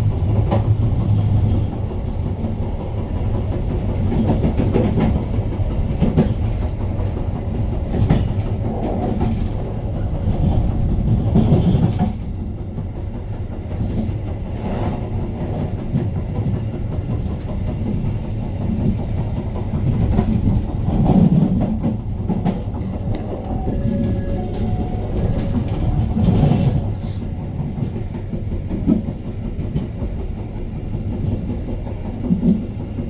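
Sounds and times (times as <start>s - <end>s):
train rumbling on rails: 0.0s - 33.0s
wheels clickety-clack: 0.0s - 33.0s.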